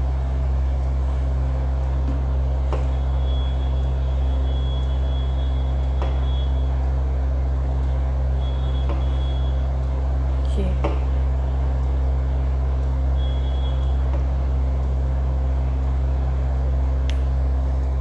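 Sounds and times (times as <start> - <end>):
low appliance motor hum: 0.0 - 18.0.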